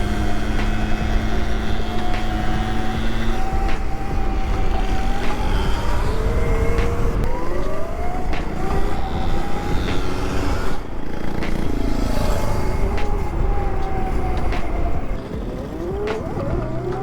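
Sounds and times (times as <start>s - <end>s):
electric motor whining: 0.0s - 17.0s
sharp knocks over bumps: 0.0s - 17.0s
wind rumble on microphone: 0.0s - 17.0s.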